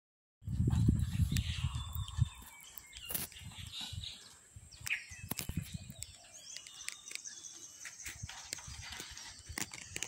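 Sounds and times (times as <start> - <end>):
birds chirping: 0.4 - 10.0.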